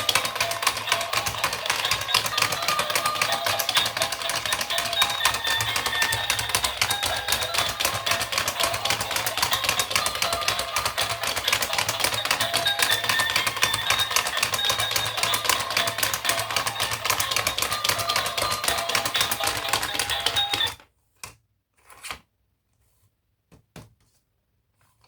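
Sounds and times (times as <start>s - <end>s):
fast dense clicking: 0.0s - 20.7s
high tinkly tune: 0.0s - 20.8s.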